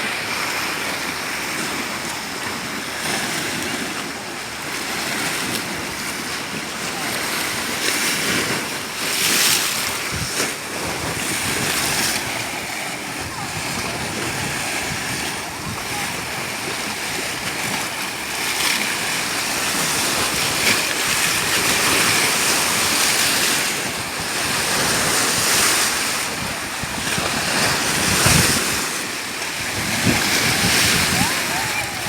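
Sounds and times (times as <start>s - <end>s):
sea waves on shore: 0.0s - 32.0s.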